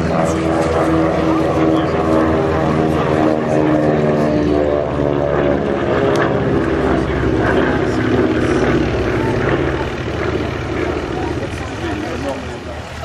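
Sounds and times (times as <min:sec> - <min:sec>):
propeller aircraft droning: 0:00.0 - 0:13.0.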